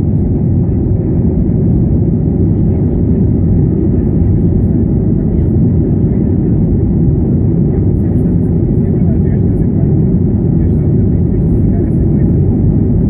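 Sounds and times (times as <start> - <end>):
jet airliner taking off: 0.0 - 13.0.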